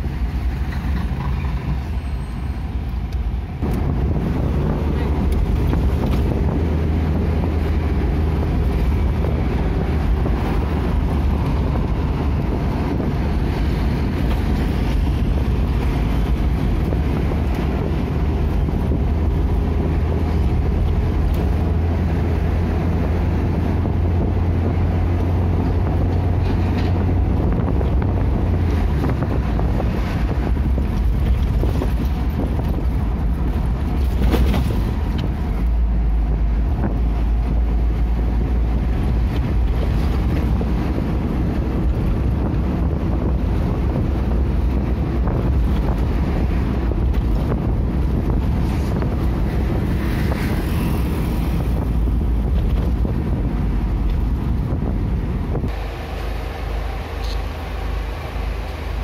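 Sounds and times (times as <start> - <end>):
vehicle engine and tyres drone: 0.0 - 59.0
wind noise: 0.0 - 59.0.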